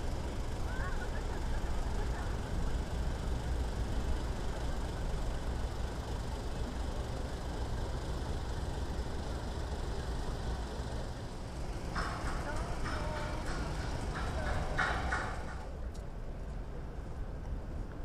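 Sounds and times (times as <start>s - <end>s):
harbour background rumble: 0.0s - 18.0s.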